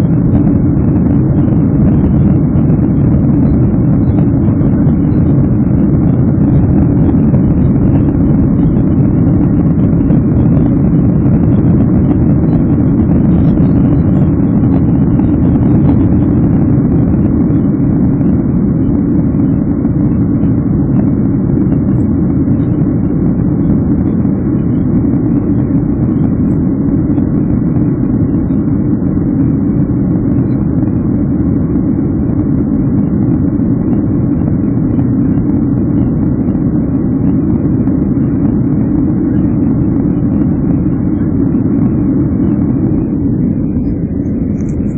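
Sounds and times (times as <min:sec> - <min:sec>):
aircraft cabin engine roar: 0:00.0 - 0:44.9.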